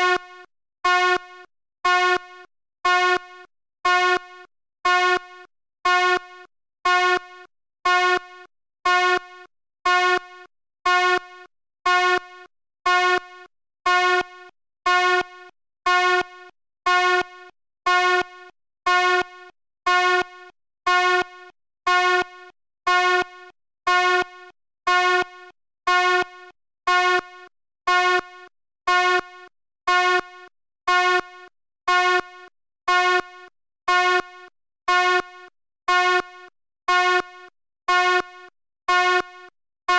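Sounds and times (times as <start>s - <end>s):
fire alarm horn blasts: 0.0s - 39.9s.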